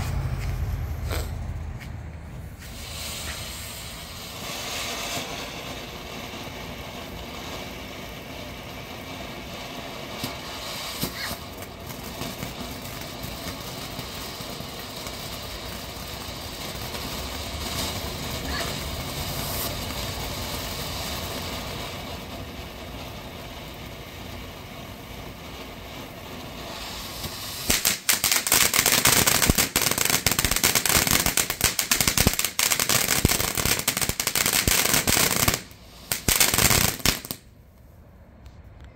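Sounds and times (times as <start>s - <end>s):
loud firework crackling: 0.0s - 37.5s
firework fountain spraying sparks: 2.2s - 37.5s.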